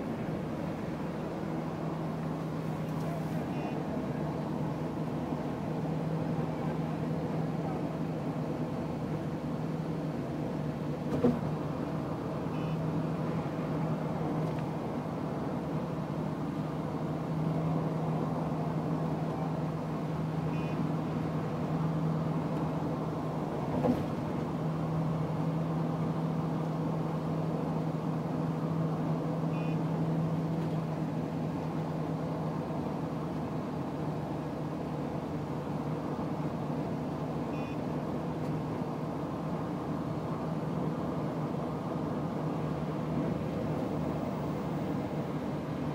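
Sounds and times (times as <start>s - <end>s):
road and engine noise in vehicle: 0.0s - 45.9s.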